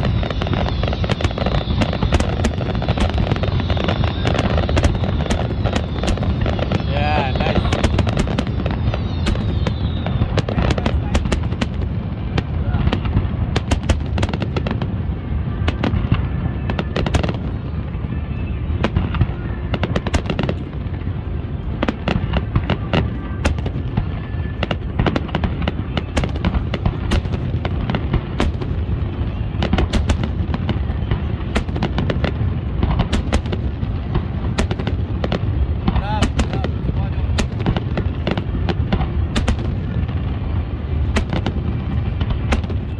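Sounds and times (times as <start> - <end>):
low booming rumble: 0.0 - 15.0, 23.4 - 42.9
fireworks bangs and crackles: 0.0 - 42.9.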